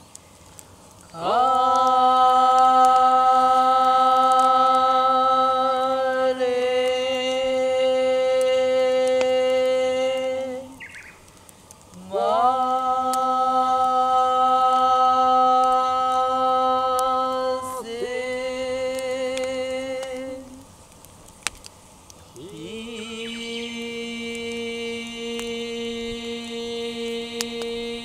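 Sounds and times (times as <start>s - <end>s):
person chanting long vowels: 1.1s - 10.9s, 12.0s - 20.7s, 22.4s - 28.0s.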